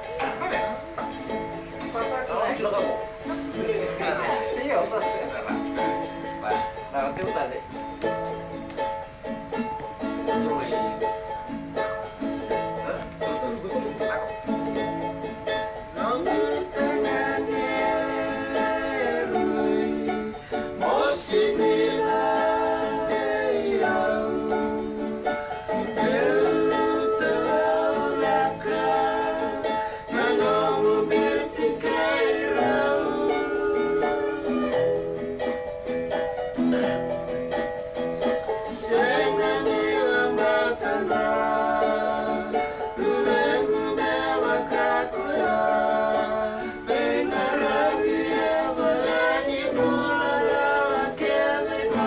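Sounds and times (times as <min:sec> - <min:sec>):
acoustic guitars strumming: 0:00.0 - 0:52.0.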